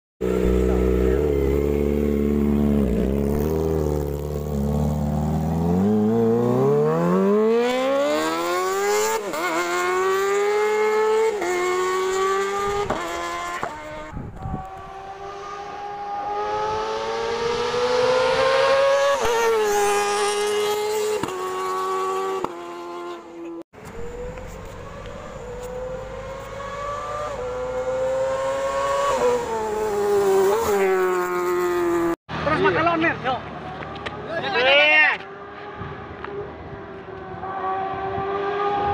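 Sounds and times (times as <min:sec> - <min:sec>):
motorcycle engine revving: 0:00.2 - 0:34.5, 0:35.1 - 0:38.9.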